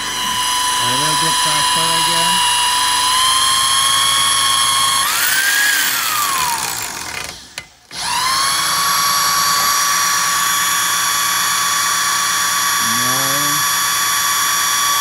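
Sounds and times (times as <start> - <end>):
electric drill motor whine: 0.0 - 15.0.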